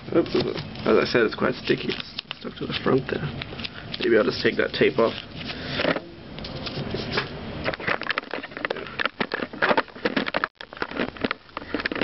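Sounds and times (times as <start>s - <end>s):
packaging sleeve crackling: 0.1s - 5.6s, 7.8s - 12.0s.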